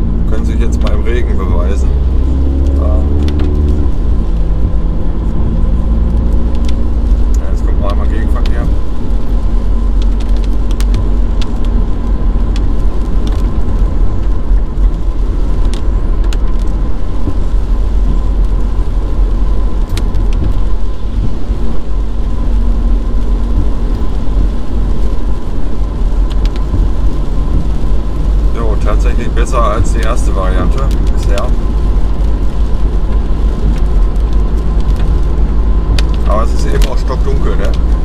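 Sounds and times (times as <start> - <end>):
road and engine rumble in car: 0.0 - 38.0.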